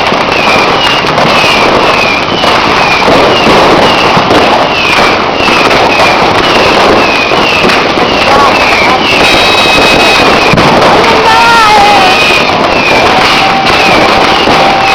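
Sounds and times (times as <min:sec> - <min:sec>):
firecrackers crackling: 0:00.0 - 0:14.9.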